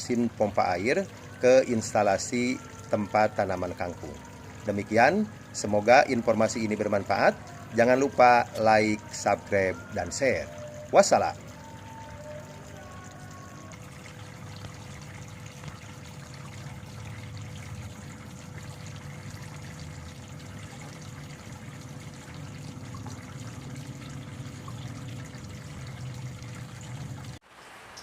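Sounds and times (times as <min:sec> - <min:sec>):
faint steady hum: 0:00.0 - 0:27.4
water trickling and pouring: 0:00.0 - 0:28.0.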